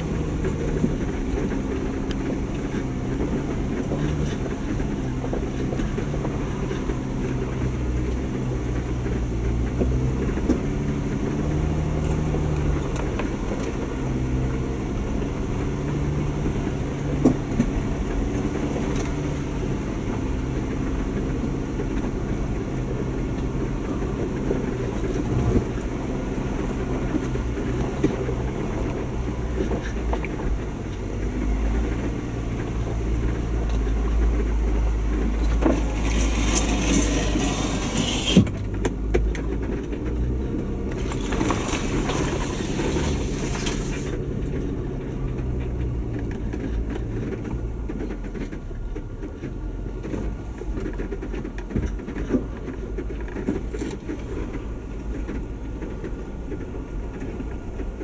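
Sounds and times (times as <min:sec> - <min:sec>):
engine running at low speed: 0:00.0 - 0:58.0.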